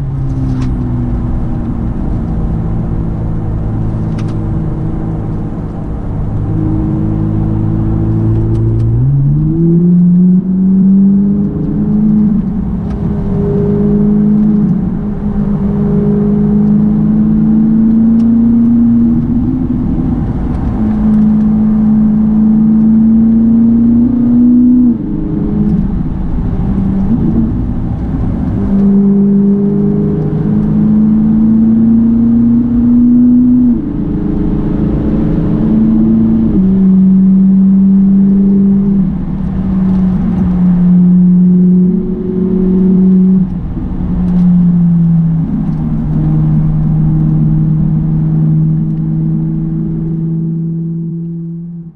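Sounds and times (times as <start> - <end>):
car engine from inside cabin: 0.0 - 51.9.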